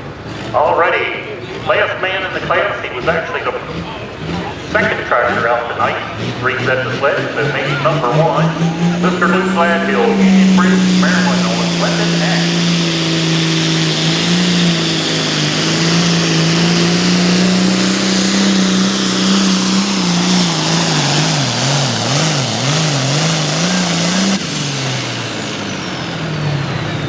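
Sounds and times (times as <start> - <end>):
tractor diesel engine at full throttle: 0.0 - 27.0.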